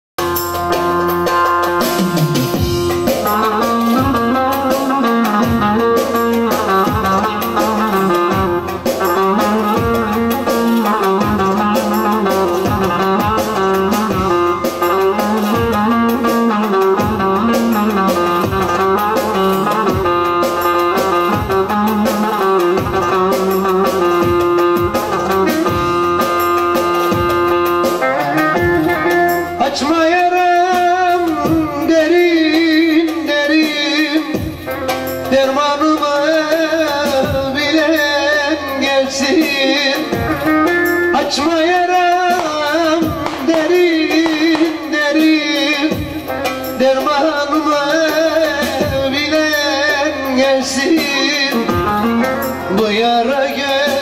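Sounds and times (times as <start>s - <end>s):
steady drum beat: 0.2s - 54.0s.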